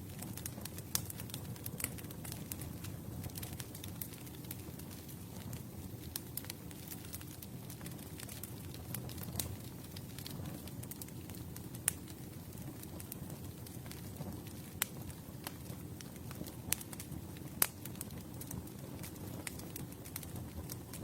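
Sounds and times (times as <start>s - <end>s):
campfire flames rumbling: 0.0s - 21.0s
fire crackles and pops: 0.0s - 21.0s.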